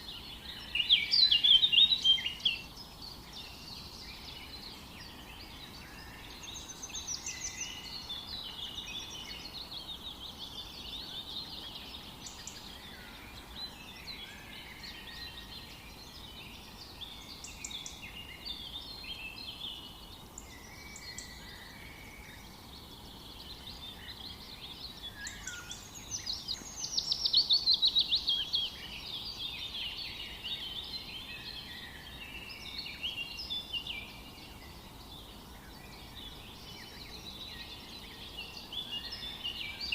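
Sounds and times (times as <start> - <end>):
faint steady hiss: 0.0 - 39.9
songbirds singing and chirping: 0.0 - 39.9.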